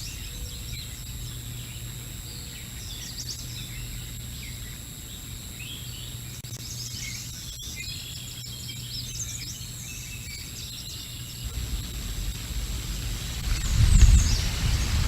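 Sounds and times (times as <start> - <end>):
low microphone hum: 0.0 - 15.0
songbirds chirping: 0.0 - 15.0.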